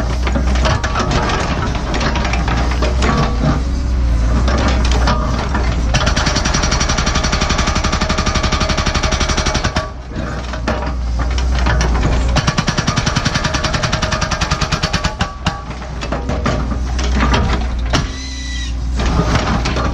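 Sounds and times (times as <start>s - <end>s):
hydraulic hammer pounding rock: 0.0s - 3.6s, 4.4s - 18.4s, 19.0s - 19.9s
excavator diesel engine running: 0.0s - 19.9s.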